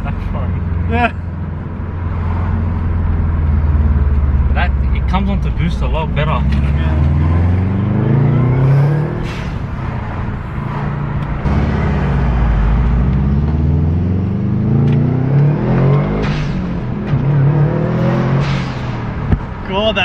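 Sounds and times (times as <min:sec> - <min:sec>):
car engine revving: 0:00.0 - 0:19.7
exhaust cracks: 0:00.0 - 0:19.7.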